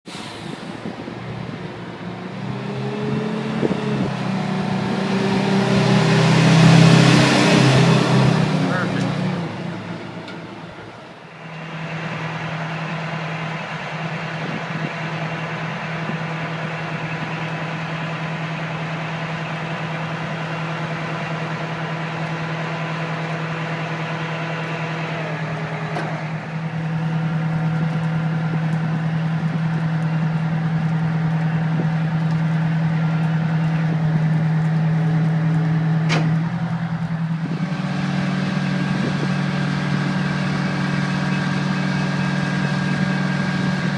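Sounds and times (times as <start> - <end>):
diesel engine idling: 0.1 - 43.9.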